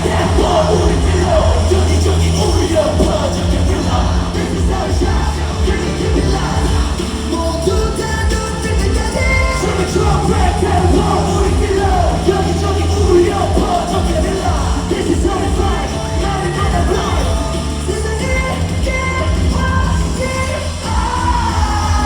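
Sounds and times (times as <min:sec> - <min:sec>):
crowd singing and yelling: 0:00.0 - 0:22.0
rock pop music over sound system: 0:00.0 - 0:22.0.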